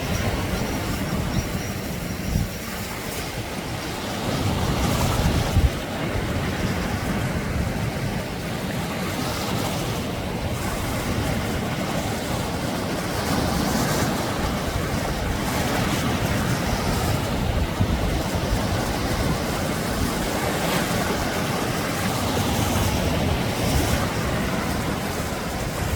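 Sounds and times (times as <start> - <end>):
sea waves breaking on beach: 0.0 - 25.9.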